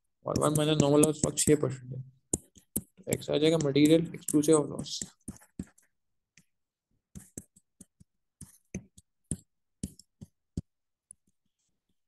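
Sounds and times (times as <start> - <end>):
stylus tapping on tablet: 0.3 - 11.4.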